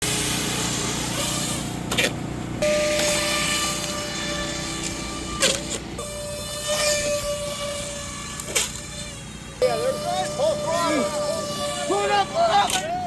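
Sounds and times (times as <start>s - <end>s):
drone motors humming: 0.0s - 13.0s
high motor whine: 0.0s - 13.0s.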